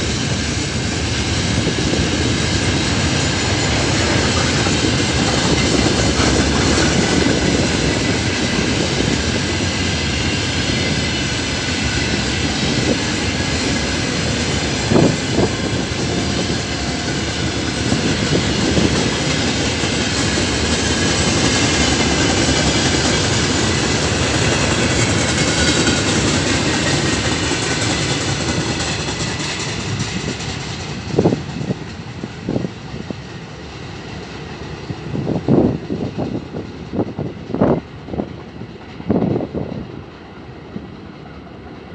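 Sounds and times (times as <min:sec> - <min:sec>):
freight train wheels clattering: 0:00.0 - 0:41.9.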